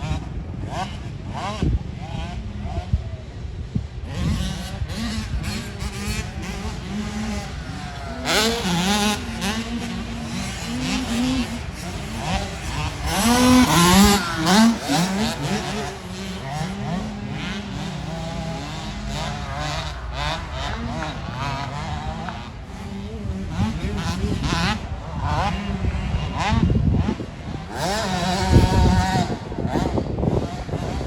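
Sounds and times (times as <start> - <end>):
motocross bikes revving past: 0.0 - 31.0.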